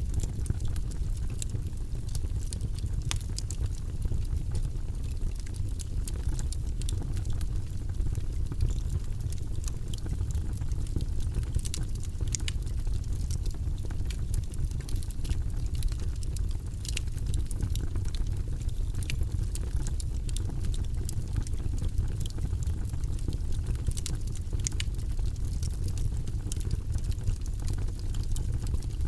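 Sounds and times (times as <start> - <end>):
log fire burning: 0.0 - 29.0
wood crackling and popping: 0.0 - 29.0.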